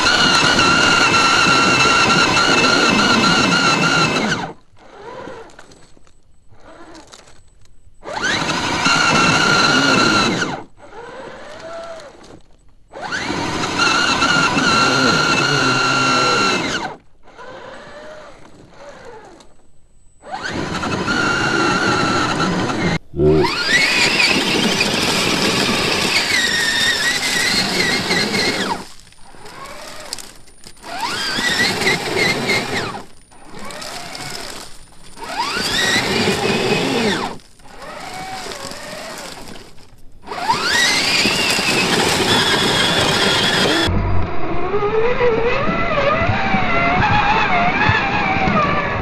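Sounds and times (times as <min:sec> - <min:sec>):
electric motor whining under load: 0:00.0 - 0:07.4, 0:08.0 - 0:19.6, 0:20.2 - 0:49.0.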